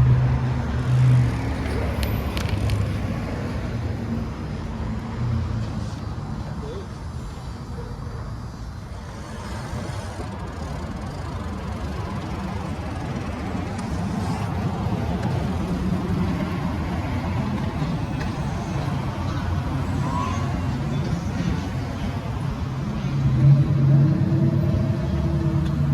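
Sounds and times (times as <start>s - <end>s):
traffic rumble: 0.0s - 25.9s.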